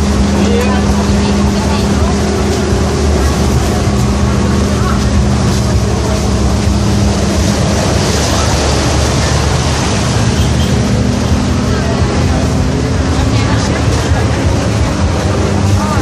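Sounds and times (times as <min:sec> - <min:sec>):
busy outdoor market din: 0:00.0 - 0:16.0.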